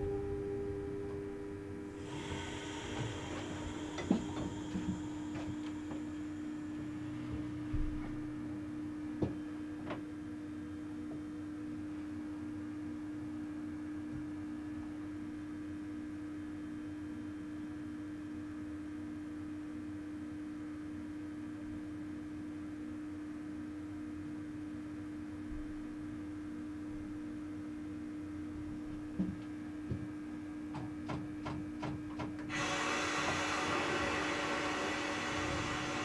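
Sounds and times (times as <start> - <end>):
steady electrical hum: 0.0 - 36.0.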